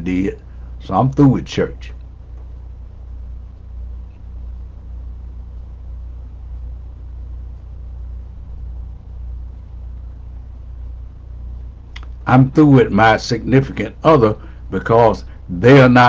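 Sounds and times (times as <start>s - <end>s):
faint hiss: 0.0s - 16.0s
steady low hum: 0.0s - 16.0s.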